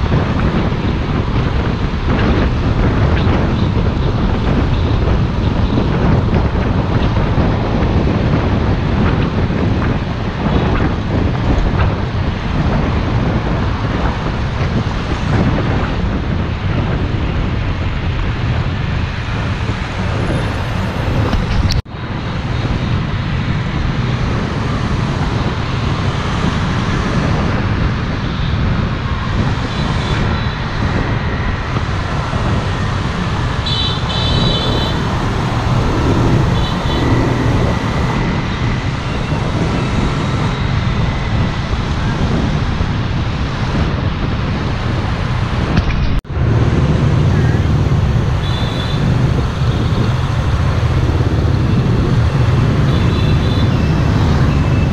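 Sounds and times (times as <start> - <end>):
road and engine noise: 0.0 - 54.9
traffic: 0.0 - 54.9
wind: 0.0 - 54.9.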